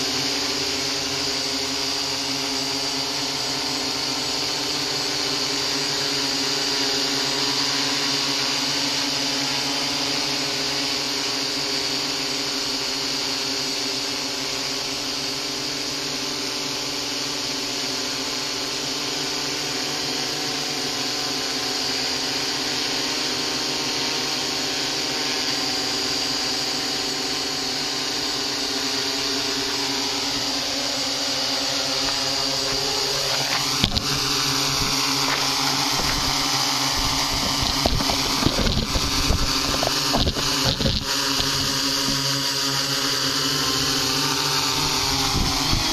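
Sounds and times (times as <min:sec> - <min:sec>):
drone motors buzzing: 0:00.0 - 0:45.9.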